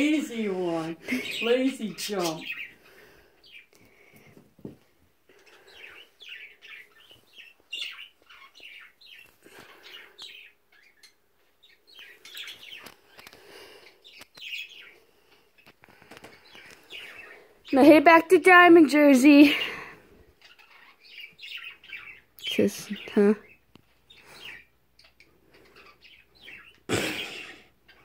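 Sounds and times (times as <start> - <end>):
bird chirping: 0.0 - 4.2, 5.3 - 28.0.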